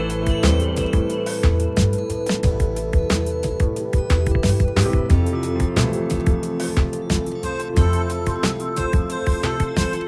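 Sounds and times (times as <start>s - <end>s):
background music with quick beat: 0.0s - 10.0s.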